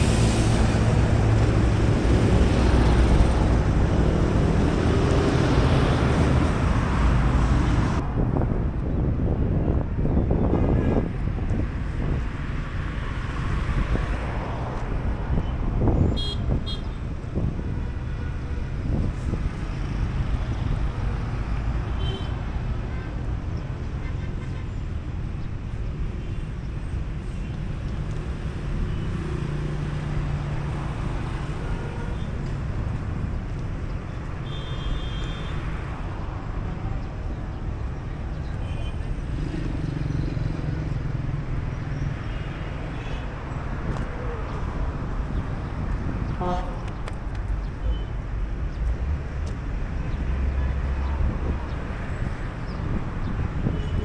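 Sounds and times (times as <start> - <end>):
street traffic: 0.0 - 54.0.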